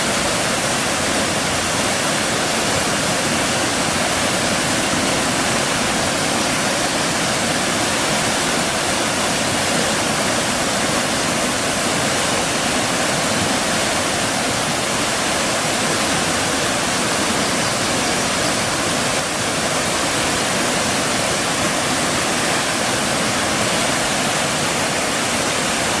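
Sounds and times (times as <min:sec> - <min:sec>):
waterfall roar: 0:00.0 - 0:26.0.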